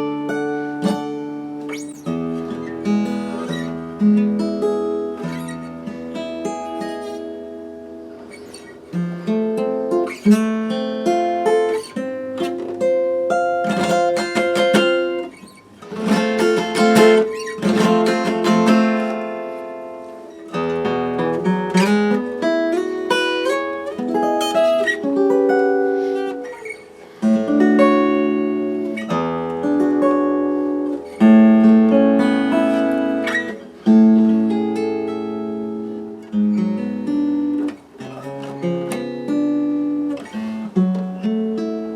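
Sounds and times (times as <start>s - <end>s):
acoustic guitar chords: 0.0s - 41.9s.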